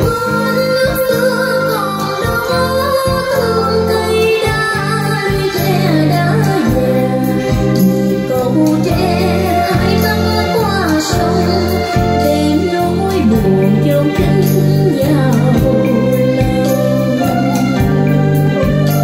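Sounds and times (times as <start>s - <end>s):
person singing: 0.0s - 19.0s.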